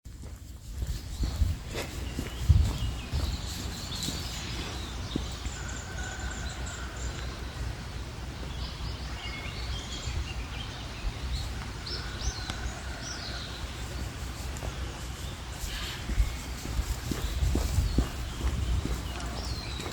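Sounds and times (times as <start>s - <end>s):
small birds chirping: 0.1s - 19.9s.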